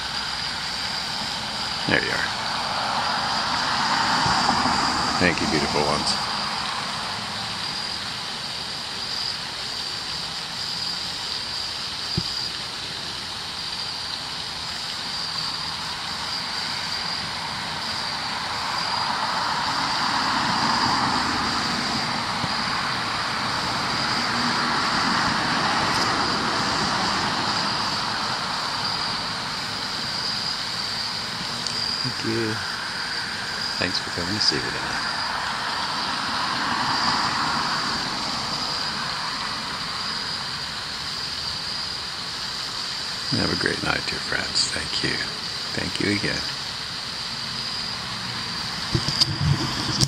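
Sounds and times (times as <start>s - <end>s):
steady high-pitched tone: 0.0s - 9.9s, 15.0s - 42.0s, 43.0s - 46.5s
distant road traffic hiss: 0.0s - 50.0s.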